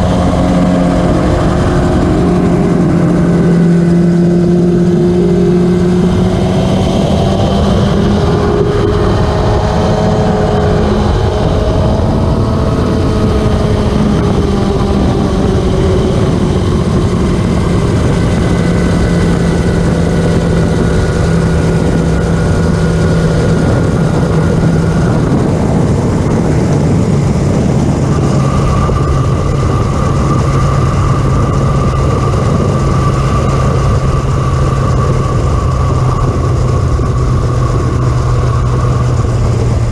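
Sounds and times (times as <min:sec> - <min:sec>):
high engine note: 0:00.0 - 0:39.9
racing motorcycle engines: 0:00.0 - 0:39.9.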